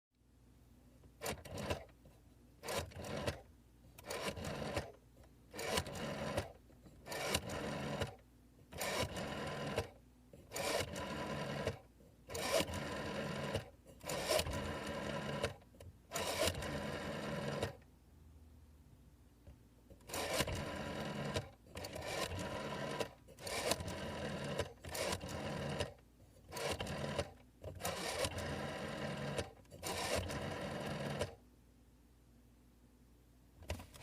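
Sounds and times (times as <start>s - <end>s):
rotary phone dial clicking and whirring: 1.1s - 17.9s, 19.5s - 31.4s.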